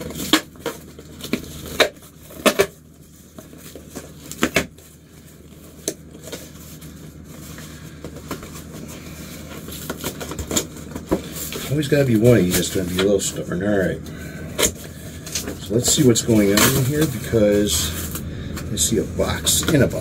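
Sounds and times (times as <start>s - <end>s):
cardboard scraping and crinkling: 0.0s - 14.0s, 14.6s - 20.0s.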